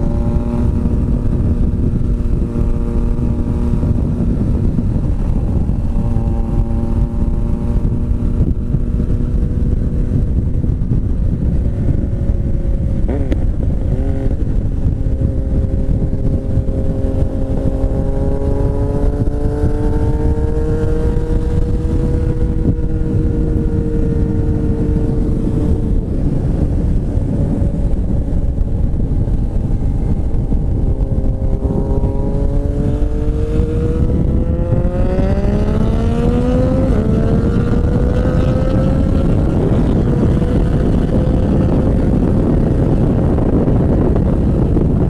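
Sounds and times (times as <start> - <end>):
motorcycle engine accelerating: 0.0 - 45.0
wind rush: 0.0 - 45.0.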